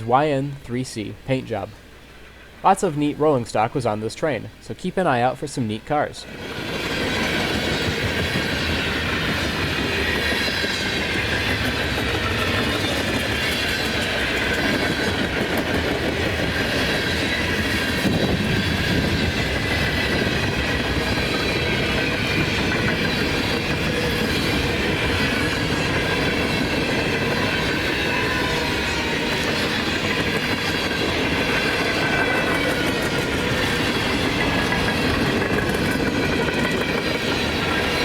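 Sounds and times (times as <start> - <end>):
freight train cars rolling past: 6.2 - 38.0.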